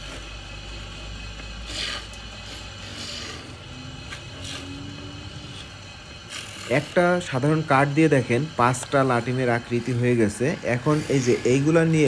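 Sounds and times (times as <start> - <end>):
chisel scraping spinning wood: 0.0 - 12.0
lathe motor humming: 0.0 - 12.0.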